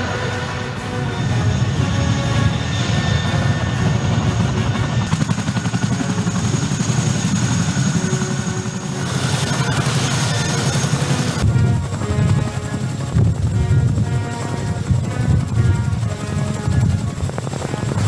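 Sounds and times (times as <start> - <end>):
helicopter rotor blades beating: 0.0 - 18.0.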